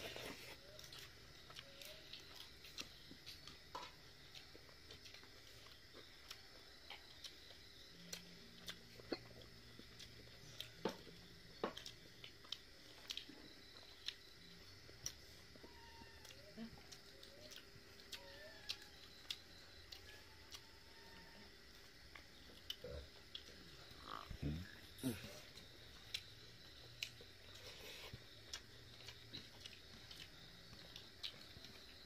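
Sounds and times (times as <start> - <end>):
person chewing: 0.0 - 32.0.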